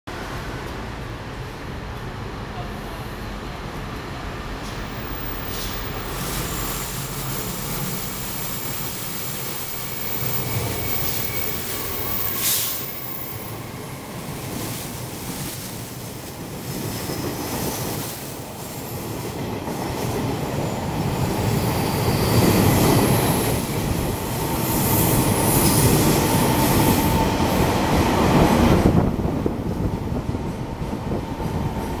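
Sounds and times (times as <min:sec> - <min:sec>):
train wheels rumbling on rail: 0:00.1 - 0:32.0.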